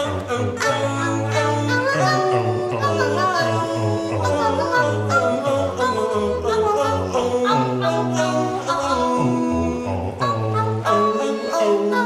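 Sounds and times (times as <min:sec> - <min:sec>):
wordless singing with instruments: 0:00.0 - 0:12.0.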